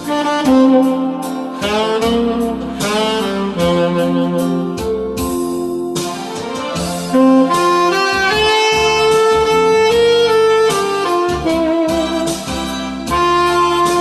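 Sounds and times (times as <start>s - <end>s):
tenor saxophone melody: 0.0s - 14.0s.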